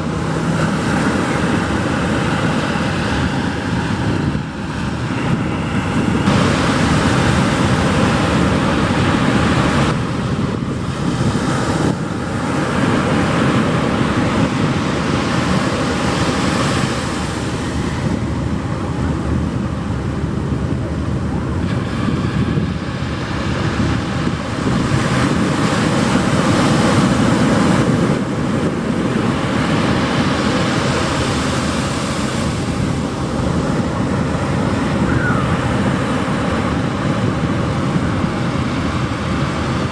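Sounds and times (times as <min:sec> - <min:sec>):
surf breaking on sandy beach: 0:00.0 - 0:39.9.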